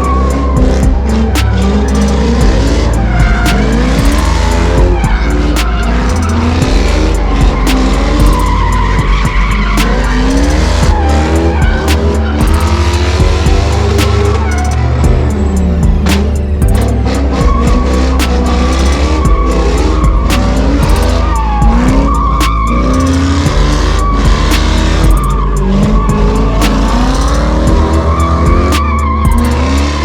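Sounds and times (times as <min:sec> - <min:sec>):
car tyres squealing: 0:00.0 - 0:30.0
engines revving: 0:00.0 - 0:30.0
loud music with heavy bass: 0:00.0 - 0:30.0.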